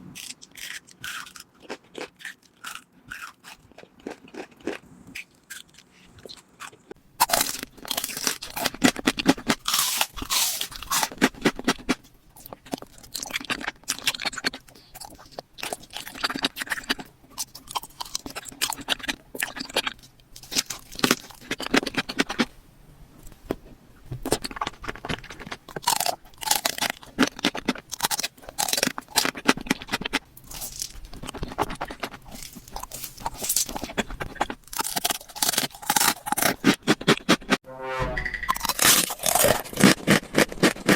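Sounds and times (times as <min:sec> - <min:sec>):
crunching bites and chewing: 0:00.1 - 0:22.5, 0:23.5 - 0:37.6, 0:38.6 - 0:40.9.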